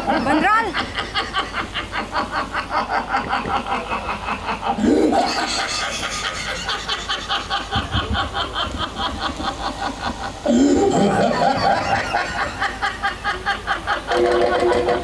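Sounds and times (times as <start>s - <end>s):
rapid pulsing laughter: 0.0s - 15.0s.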